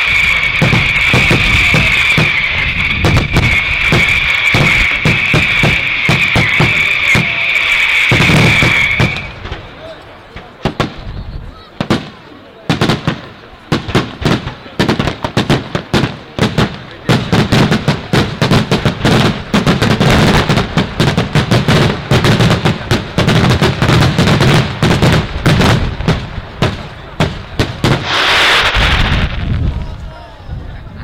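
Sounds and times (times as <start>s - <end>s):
firecracker bangs: 0.0s - 9.8s, 11.8s - 29.9s.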